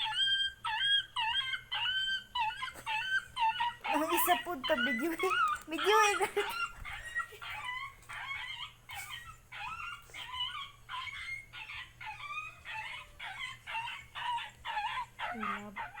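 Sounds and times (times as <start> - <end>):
dog yelping in pain: 0.0 - 16.0.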